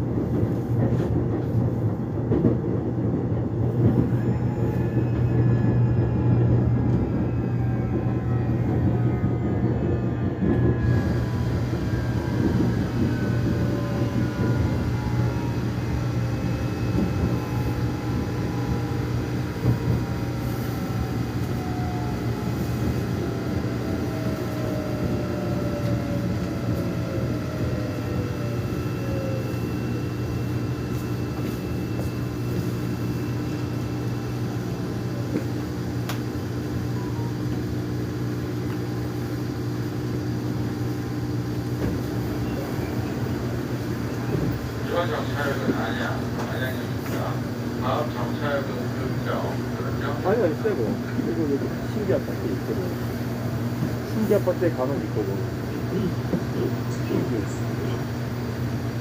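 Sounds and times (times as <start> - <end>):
subway train rumble and hum: 0.0 - 59.0.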